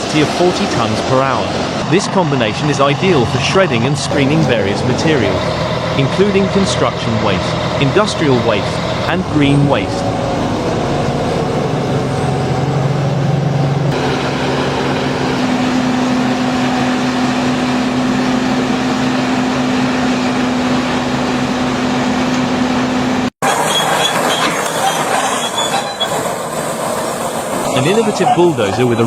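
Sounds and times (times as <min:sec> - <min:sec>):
heavy machinery engine hum: 0:00.0 - 0:29.0
noisier machine sound: 0:00.0 - 0:29.0.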